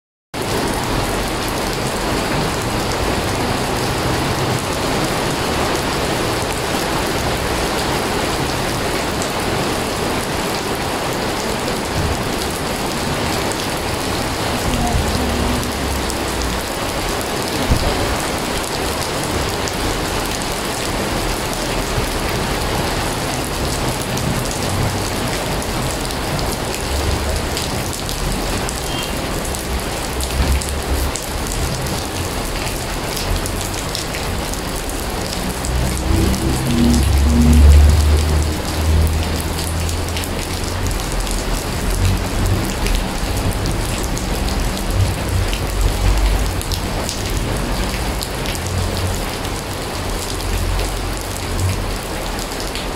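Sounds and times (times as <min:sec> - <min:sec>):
heavy rain splashing into water: 0:00.4 - 0:52.9.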